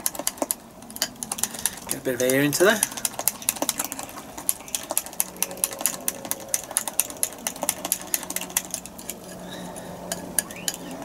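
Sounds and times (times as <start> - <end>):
whisk clicking against glass bowl: 0.0 - 9.1.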